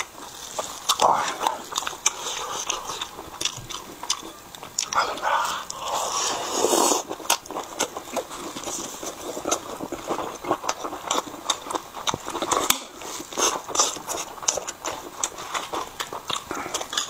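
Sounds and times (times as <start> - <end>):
chewing with wet mouth sounds: 0.0 - 17.0.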